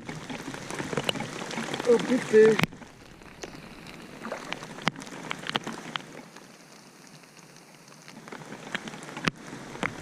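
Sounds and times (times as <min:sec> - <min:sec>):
water splashes and drips: 0:00.0 - 0:10.0.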